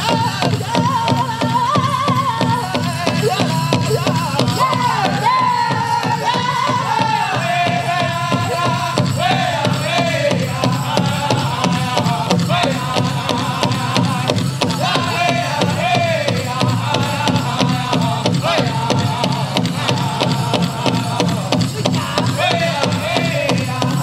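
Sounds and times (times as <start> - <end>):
big drum beat: 0.0 - 24.0
group singing: 0.0 - 24.0.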